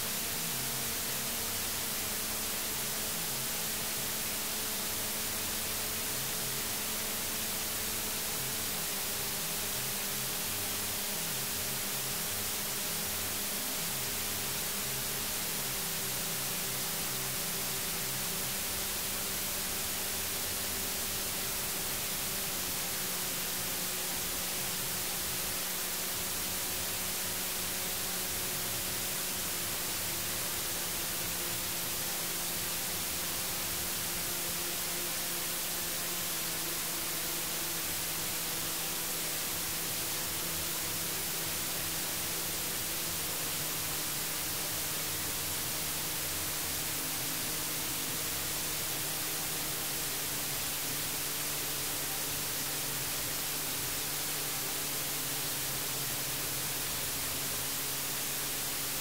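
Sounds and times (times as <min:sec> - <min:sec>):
white-noise hiss: 0:00.0 - 0:59.0.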